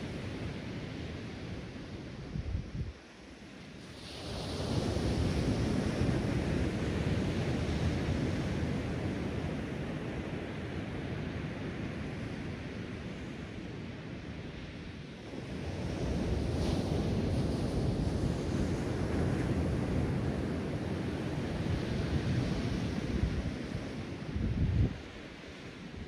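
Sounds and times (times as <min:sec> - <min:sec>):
wind rumble on microphone: 0:00.0 - 0:26.0
ocean surf breaking on beach: 0:03.0 - 0:26.0.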